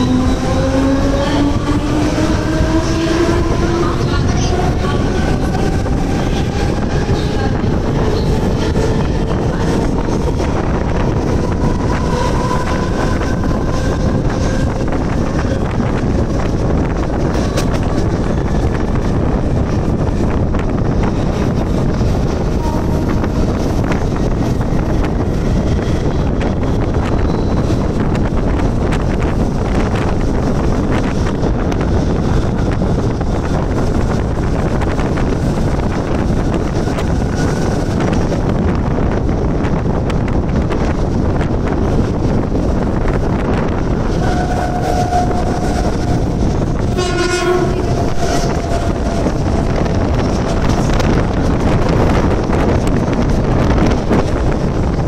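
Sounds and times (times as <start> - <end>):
faint train whine: 0.0 - 55.0
train running: 0.0 - 55.0
wind noise on microphone: 0.0 - 55.0.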